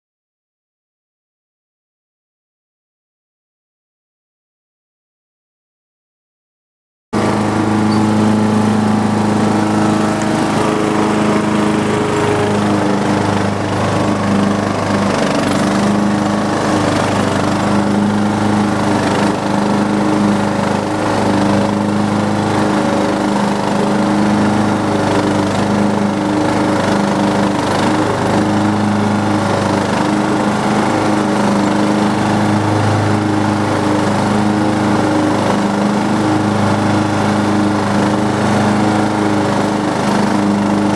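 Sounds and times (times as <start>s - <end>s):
riding lawn mower engine: 7.2s - 40.9s.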